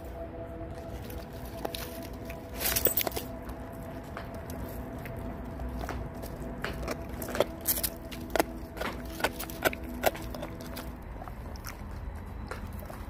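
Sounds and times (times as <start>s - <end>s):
dog crunching bones: 0.8s - 13.0s.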